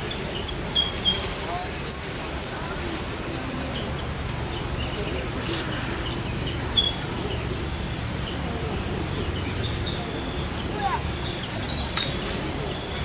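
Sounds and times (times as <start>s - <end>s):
insects trilling chorus: 0.0s - 13.0s.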